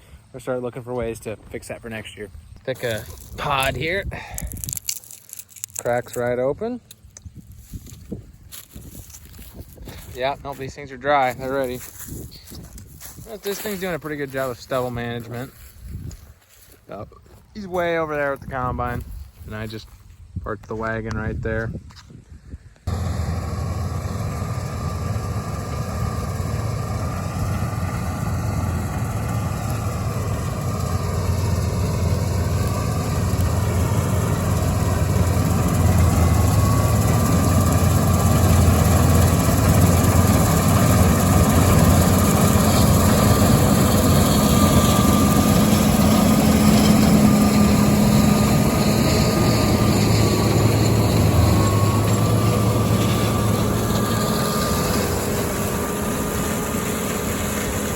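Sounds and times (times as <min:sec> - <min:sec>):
combine harvester running: 0:00.0 - 0:21.4, 0:22.9 - 0:57.9.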